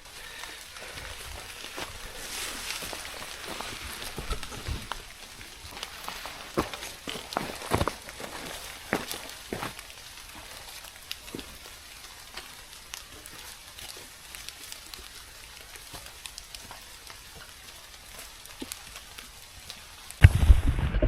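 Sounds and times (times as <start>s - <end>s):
rain falling: 0.0s - 20.9s
ticks of raindrops: 0.0s - 21.0s.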